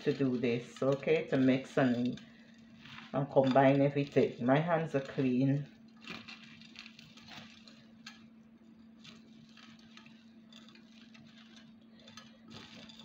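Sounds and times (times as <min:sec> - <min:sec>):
crumbs crackling and rustling: 0:00.0 - 0:13.0
steady low hum: 0:00.0 - 0:13.0.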